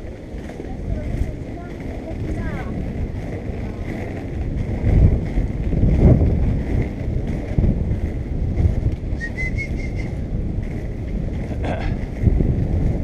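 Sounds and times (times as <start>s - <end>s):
skateboard wheels on asphalt: 0.0s - 13.0s
wind buffeting microphone: 0.0s - 13.0s.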